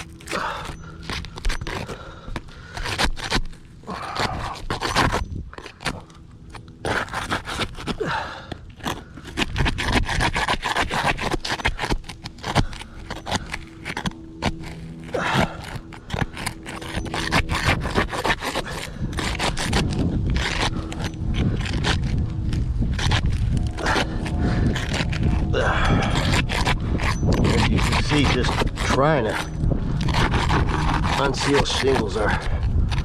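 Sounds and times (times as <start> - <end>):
metal scraper scraping shingles: 0.0 - 6.1, 6.8 - 8.0, 8.8 - 33.0.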